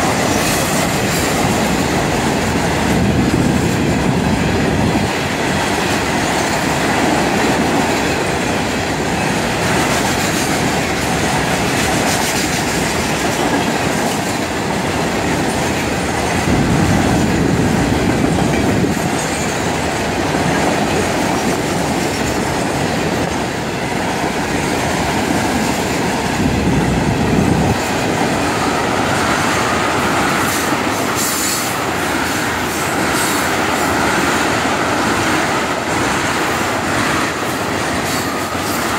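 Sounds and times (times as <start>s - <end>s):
steel wheels rumbling on rails: 0.0s - 38.9s.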